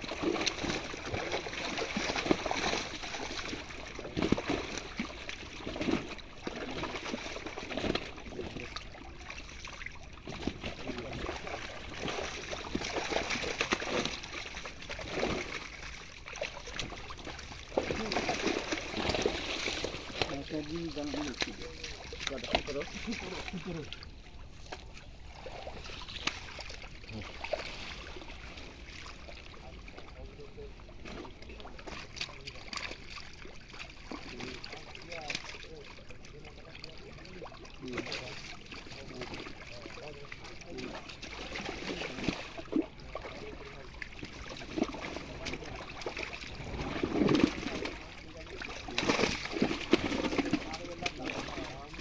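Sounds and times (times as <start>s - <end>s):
pond water sloshing and trickling: 0.0s - 52.0s.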